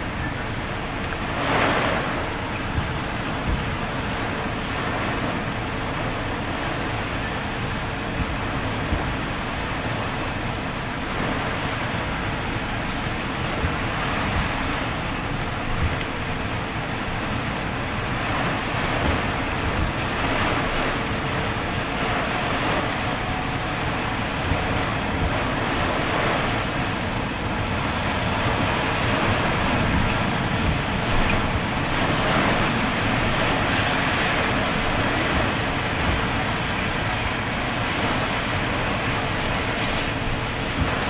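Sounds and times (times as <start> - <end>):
heavy rain: 0.0 - 41.0
hurricane winds: 0.0 - 41.0
wind buffeting microphone: 0.0 - 41.0.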